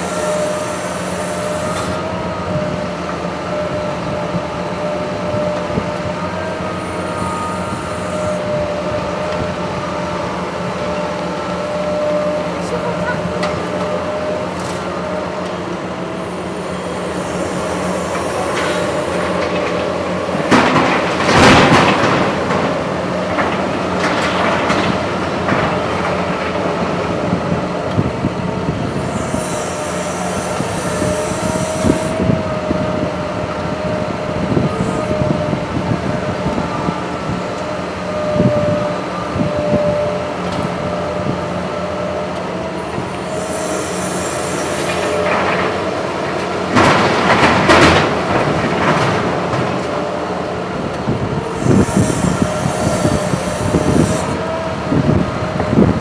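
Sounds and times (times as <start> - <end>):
excavator engine and hydraulics whining: 0.0 - 56.0.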